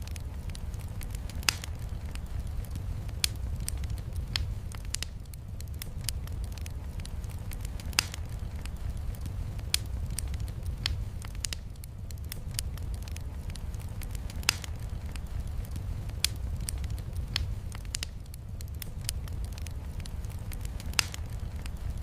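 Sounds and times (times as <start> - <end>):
log fire crackling and popping: 0.0 - 22.0.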